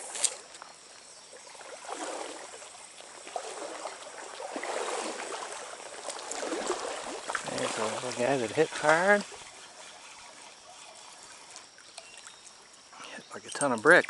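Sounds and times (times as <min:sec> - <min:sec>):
stream water rushing and trickling: 0:00.0 - 0:14.0.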